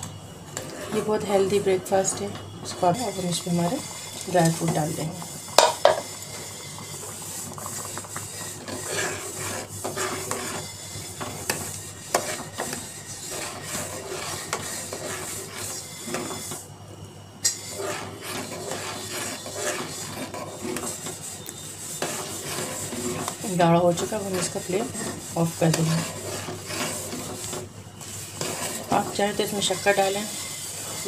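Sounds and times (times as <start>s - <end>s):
metal spatula scraping a saucepan: 0.5s - 16.7s, 17.4s - 31.0s.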